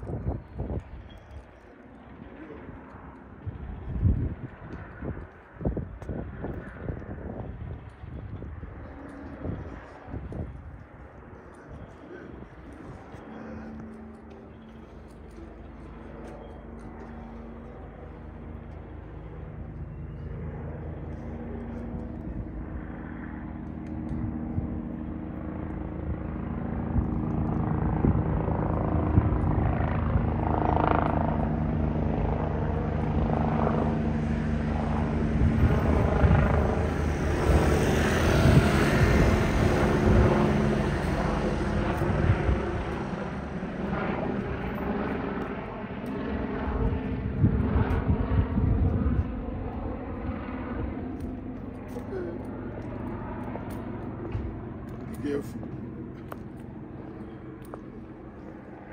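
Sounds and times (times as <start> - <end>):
helicopter rotor beat: 0.0 - 58.9.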